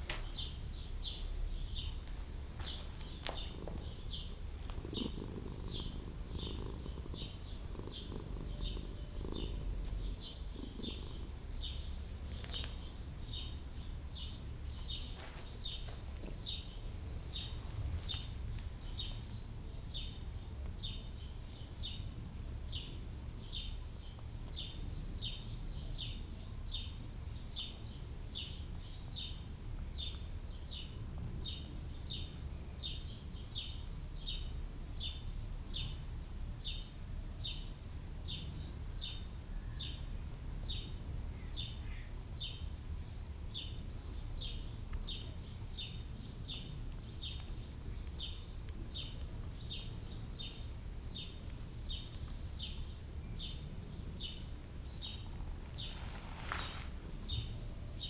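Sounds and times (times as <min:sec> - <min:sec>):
small bird chirping: 0:00.0 - 0:36.0, 0:36.6 - 0:58.0
steady low rumble: 0:00.0 - 0:58.0.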